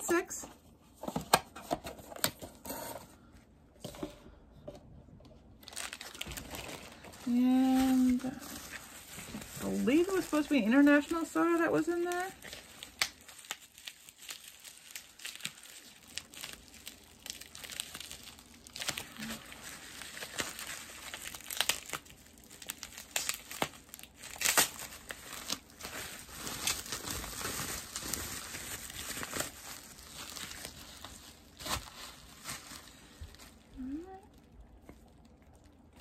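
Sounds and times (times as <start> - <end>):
bubble wrap crackling: 5.6 - 36.0.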